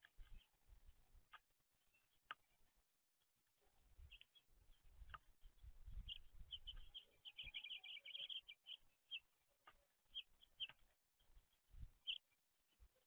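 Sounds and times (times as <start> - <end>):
songbirds chirping faintly: 0.0 - 13.0.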